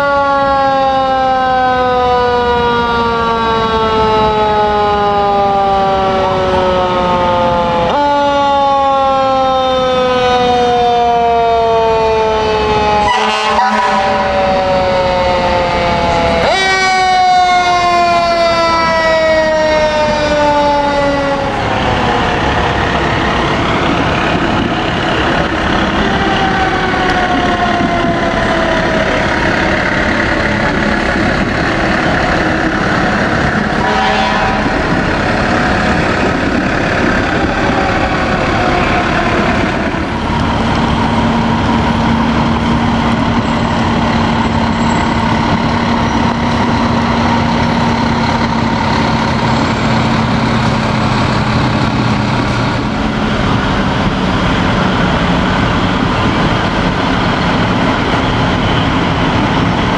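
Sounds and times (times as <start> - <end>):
fire engine sirens wailing: 0.0 - 59.9
fire truck engines rumbling: 0.0 - 59.9.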